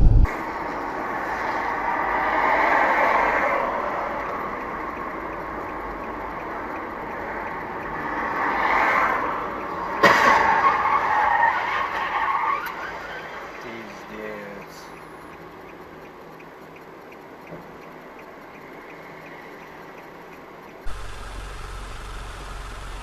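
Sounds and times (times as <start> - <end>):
car road and tyre noise: 0.0 - 23.0.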